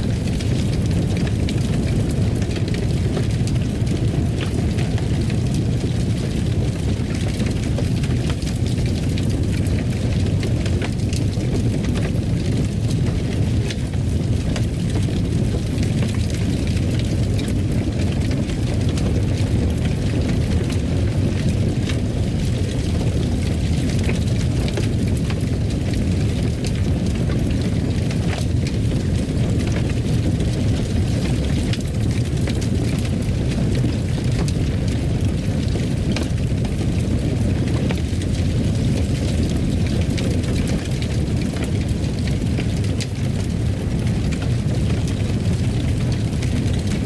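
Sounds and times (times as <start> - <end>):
faint fire crackles: 0.0 - 47.0
fireplace fire roaring: 0.0 - 47.0.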